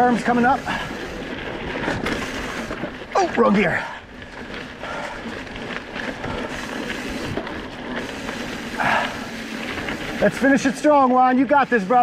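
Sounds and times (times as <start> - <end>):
bike clicks and rattles: 0.0 - 12.0
bike tyres on stony trail: 0.0 - 12.0.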